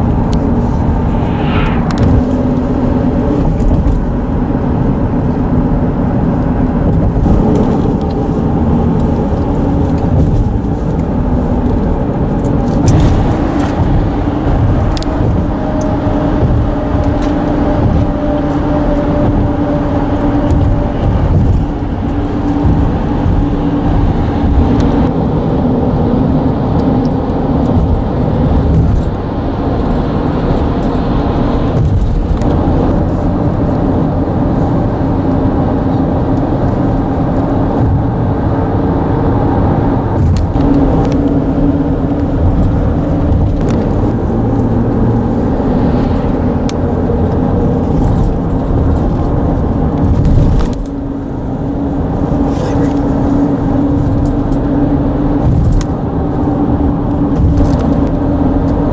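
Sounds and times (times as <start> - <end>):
traffic rumble on bridge: 0.0 - 58.9
tyres humming on bridge deck: 0.0 - 58.9.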